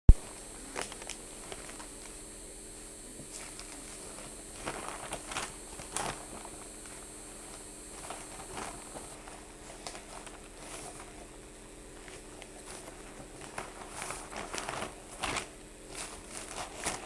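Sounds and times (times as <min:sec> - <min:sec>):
faint steady hum: 0:00.1 - 0:17.0
rustles: 0:00.2 - 0:02.3, 0:03.0 - 0:17.0.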